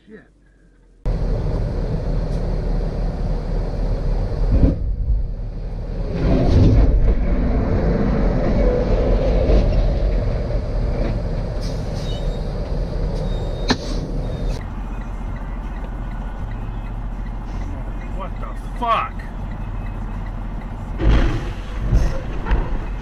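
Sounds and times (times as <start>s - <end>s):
truck engine and road noise: 0.0s - 23.0s.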